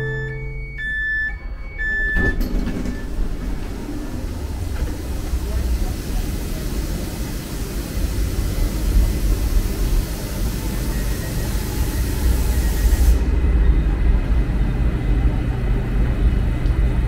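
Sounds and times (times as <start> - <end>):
low rumble of standing trains: 0.0 - 17.0.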